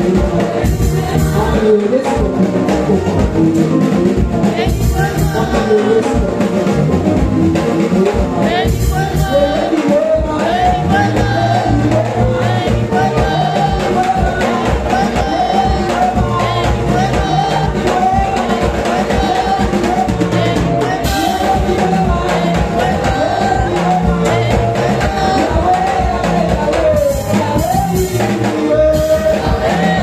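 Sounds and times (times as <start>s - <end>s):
amplified worship singing: 0.0s - 30.0s
music with steady beat and bass: 0.0s - 30.0s.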